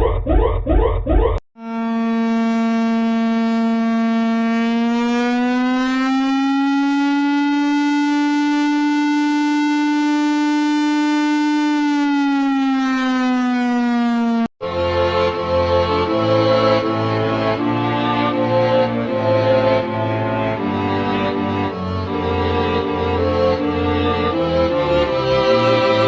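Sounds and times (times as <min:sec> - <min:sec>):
buzzy emergency siren wail: 0:00.0 - 0:26.0.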